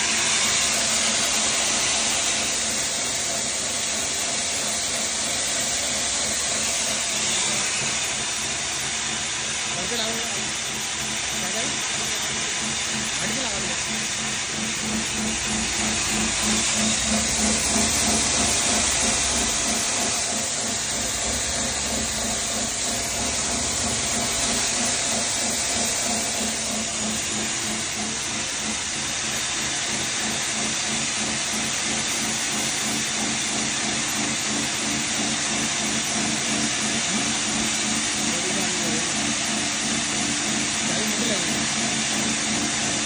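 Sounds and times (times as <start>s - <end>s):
grain grinder whirring: 0.0s - 43.0s
low machine hum: 0.0s - 43.0s.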